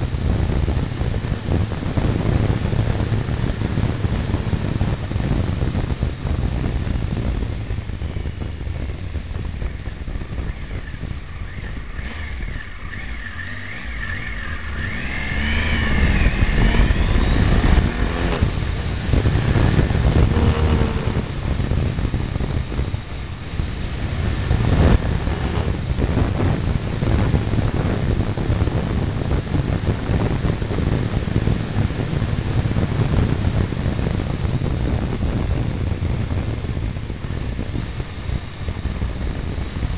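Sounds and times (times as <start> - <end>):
wind on microphone: 0.0 - 13.4, 14.3 - 39.9
motorcycle engine running: 0.0 - 39.9
rising whine: 0.0 - 39.9.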